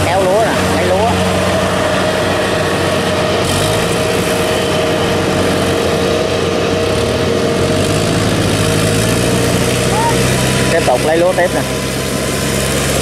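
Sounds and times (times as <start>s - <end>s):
steady whine: 0.0s - 13.0s
tracked carrier engine running: 0.0s - 13.0s.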